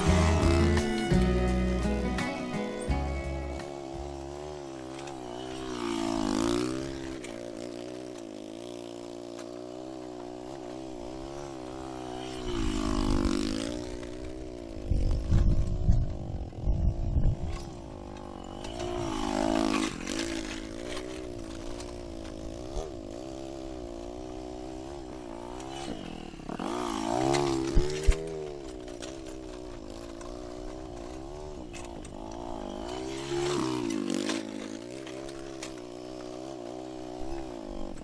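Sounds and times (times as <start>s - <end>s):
atv engine running: 0.0s - 38.0s.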